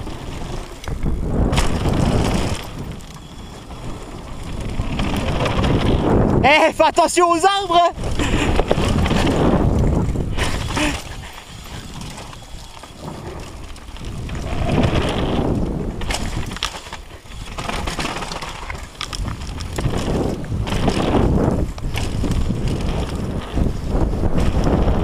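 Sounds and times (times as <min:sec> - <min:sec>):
bike frame and chain rattling: 0:00.0 - 0:25.0
bike tyres rumbling on boards: 0:00.0 - 0:25.0.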